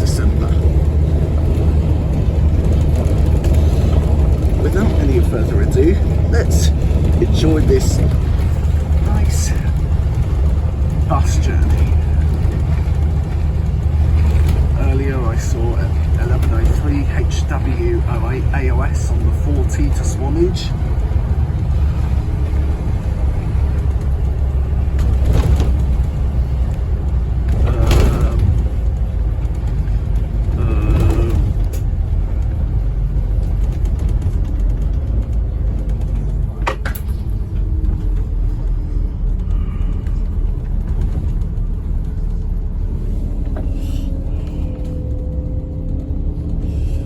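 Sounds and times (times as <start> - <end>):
body knocks and rattles: 0.0 - 47.0
bus diesel engine rumble: 0.0 - 47.0
road noise: 0.0 - 47.0.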